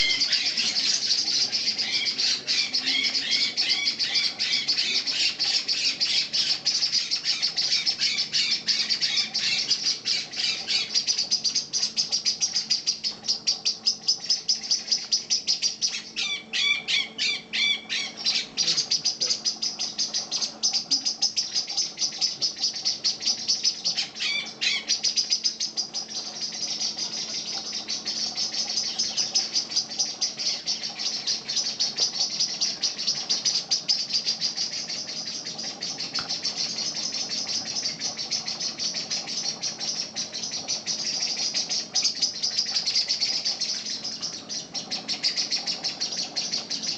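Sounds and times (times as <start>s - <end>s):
high-pitched bird alarm calls: 0.0s - 46.9s
lower bird chirping calls: 0.0s - 46.9s.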